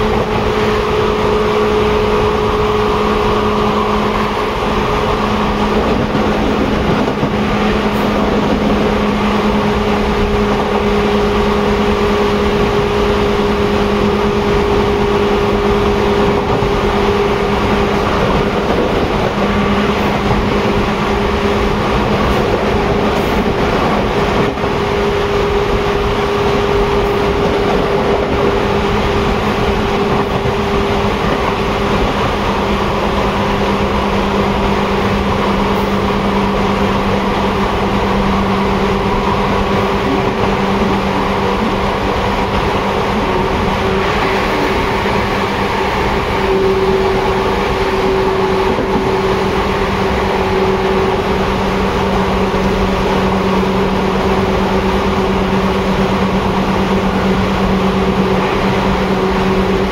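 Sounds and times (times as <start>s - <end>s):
train rumble and wheel-on-rail noise: 0.0s - 59.9s.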